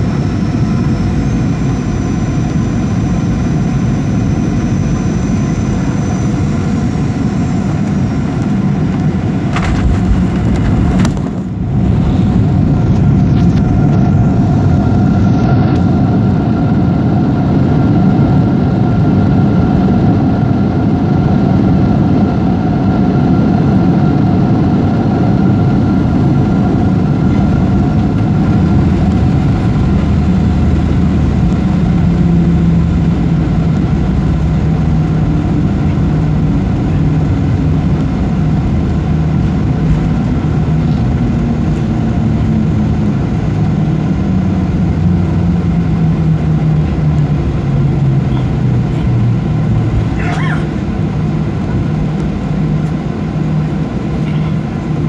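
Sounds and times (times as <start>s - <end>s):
high whine: 0.0s - 55.0s
jet engine and wheel rumble: 0.0s - 55.0s
low hum: 0.0s - 55.0s.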